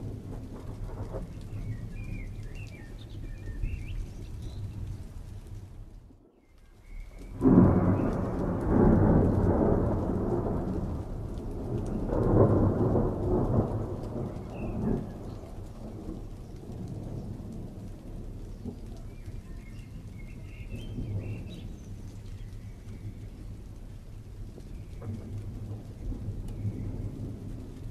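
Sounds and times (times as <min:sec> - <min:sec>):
thunder rumbling: 0:00.0 - 0:27.9.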